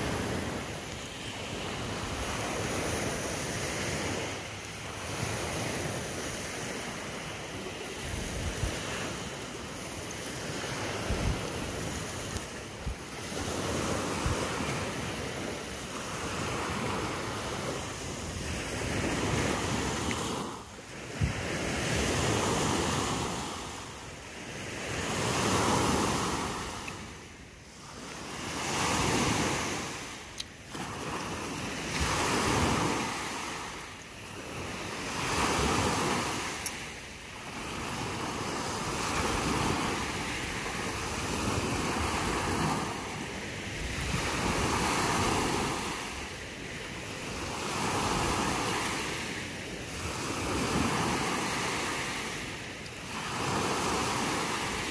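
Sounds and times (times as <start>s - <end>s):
small waves breaking on beach: 0.0s - 54.9s.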